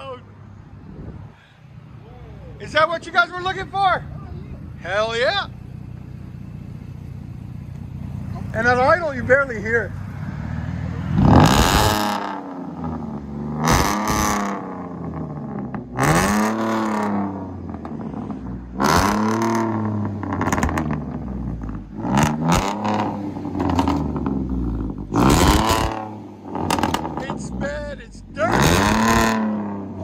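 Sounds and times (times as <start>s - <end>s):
truck engine revving: 2.6s - 30.0s.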